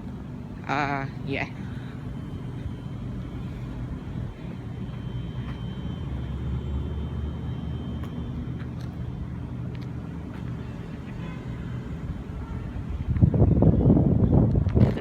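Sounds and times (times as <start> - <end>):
thin high whine: 0.0 - 14.0
vehicle engine rumble: 0.0 - 15.0.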